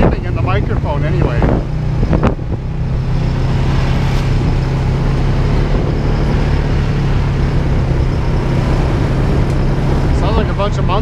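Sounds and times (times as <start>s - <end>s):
atv engine running: 0.0s - 11.0s
wind and trail noise: 0.0s - 11.0s.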